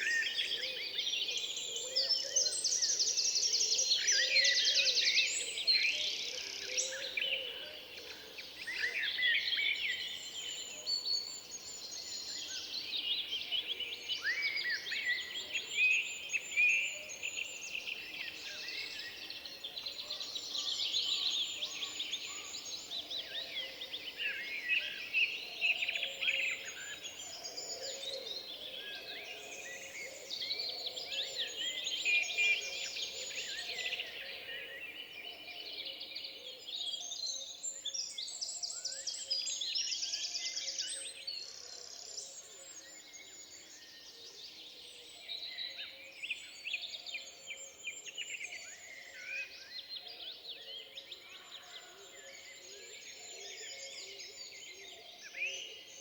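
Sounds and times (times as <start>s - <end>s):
songbirds singing and calling: 0.0s - 56.0s.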